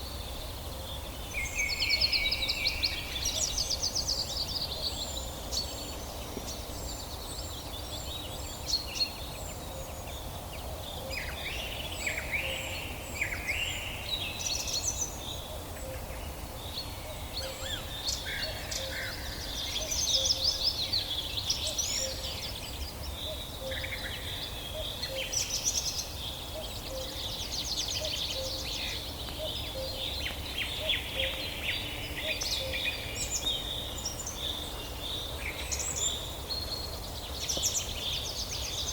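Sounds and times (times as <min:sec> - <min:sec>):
songbirds singing and calling: 0:00.0 - 0:38.9.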